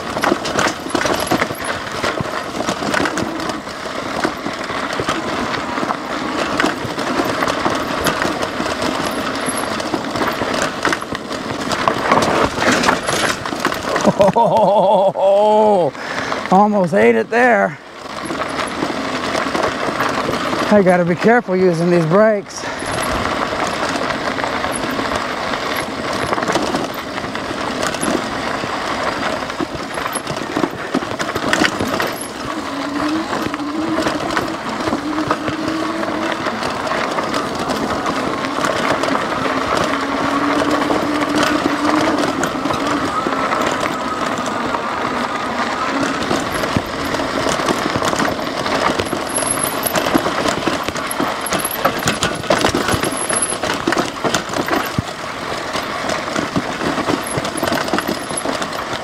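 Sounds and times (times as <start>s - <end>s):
bike rattling and clattering: 0.0s - 59.0s
faint motor whine: 0.0s - 59.0s
tyres crunching over gravel: 0.0s - 59.0s.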